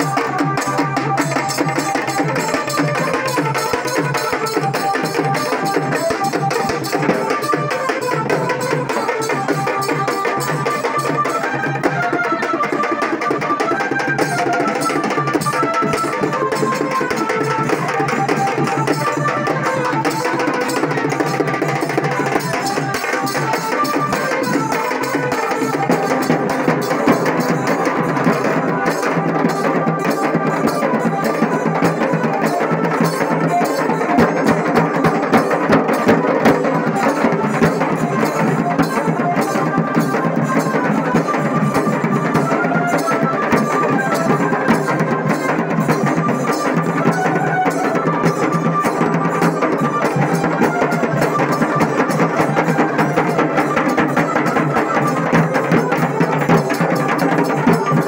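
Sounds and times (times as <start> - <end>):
dhol drumming: 0.0 - 58.0.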